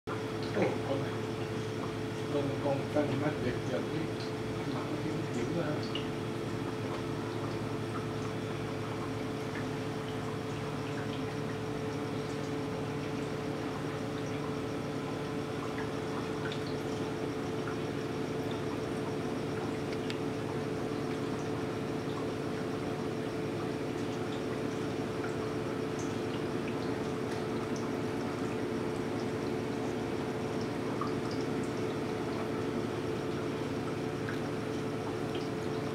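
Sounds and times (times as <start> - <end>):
aquarium pump hum: 0.1 - 35.9
water trickling: 0.2 - 35.9
water dripping: 0.4 - 35.9.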